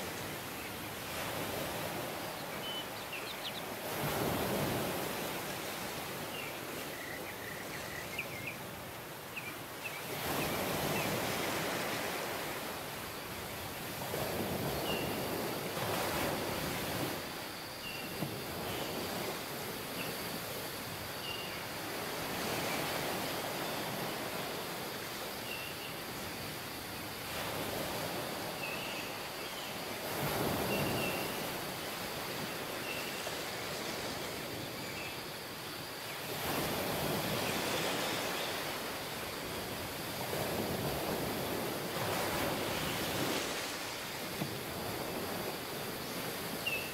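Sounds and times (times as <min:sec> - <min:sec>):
sea waves washing onto beach: 0:00.0 - 0:06.9, 0:08.6 - 0:46.9.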